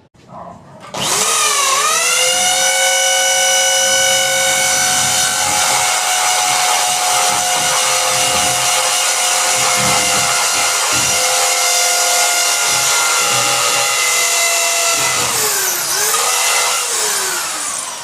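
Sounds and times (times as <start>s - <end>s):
electric motor whining: 0.9s - 18.0s.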